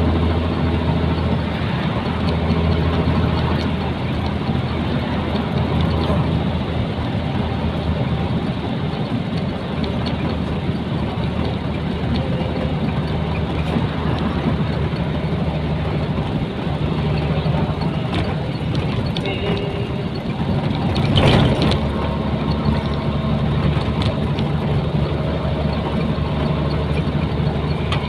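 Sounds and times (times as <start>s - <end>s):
diesel truck engine drone: 0.0s - 28.0s
road and tyre noise: 0.0s - 28.0s.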